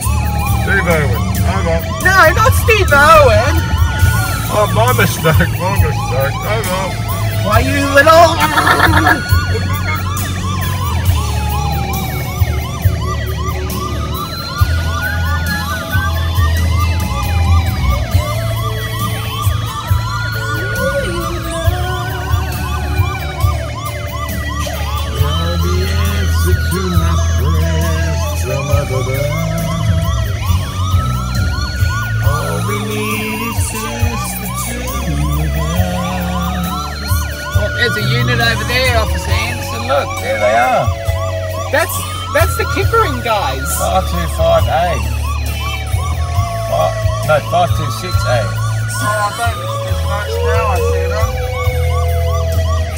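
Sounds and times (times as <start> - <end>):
police siren yelp: 0.0 - 52.9
wailing siren tone: 0.0 - 52.9.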